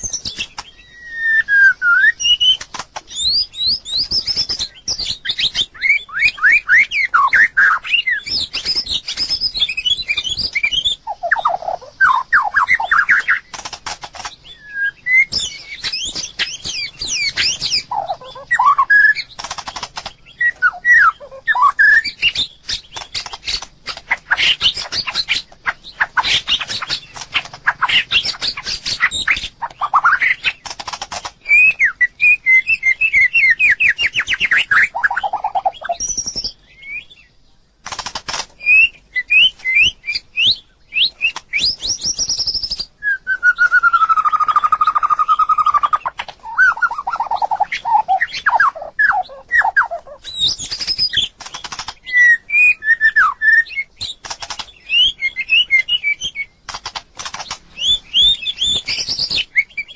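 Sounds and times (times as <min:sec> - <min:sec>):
bird singing whistled song: 0:00.0 - 0:37.4, 0:38.6 - 0:59.9.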